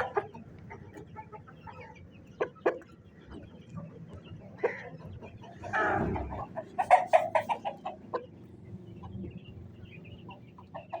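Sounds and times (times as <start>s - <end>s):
chicken clucking: 0.0s - 11.0s.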